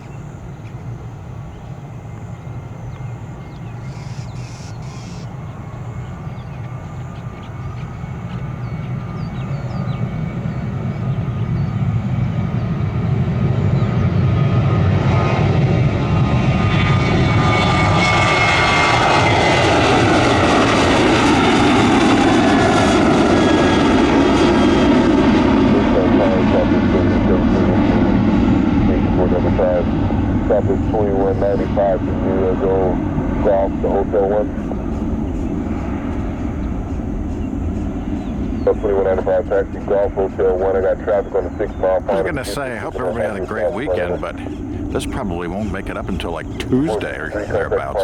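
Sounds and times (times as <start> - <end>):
jet airliner rumble and whine: 0.0 - 48.0.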